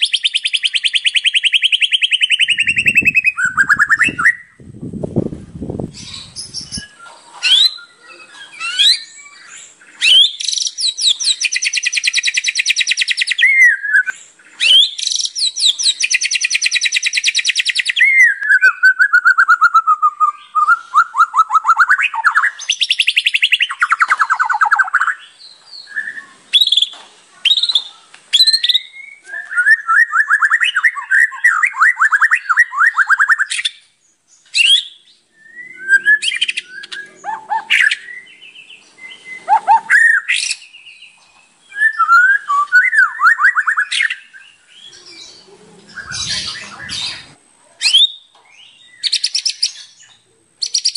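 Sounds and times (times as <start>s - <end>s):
bird singing trills and whistles: 0.0s - 4.6s, 5.9s - 50.9s.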